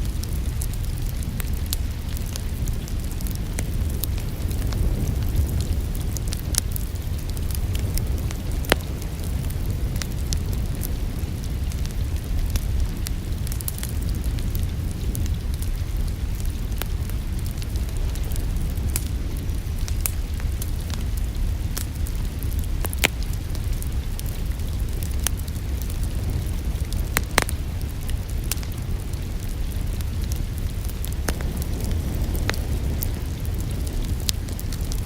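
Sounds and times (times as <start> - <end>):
steady low rumble: 0.0 - 35.0
wood fire crackling and popping: 0.0 - 35.0.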